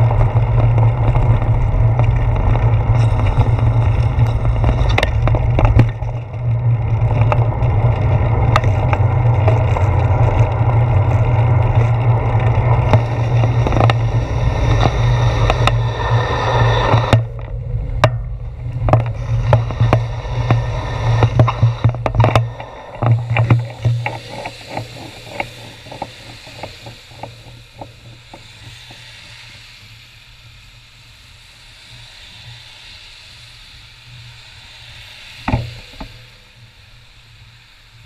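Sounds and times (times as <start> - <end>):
bicycle riding rumble: 0.0 - 38.0
tyre hiss on wet road: 0.0 - 38.0.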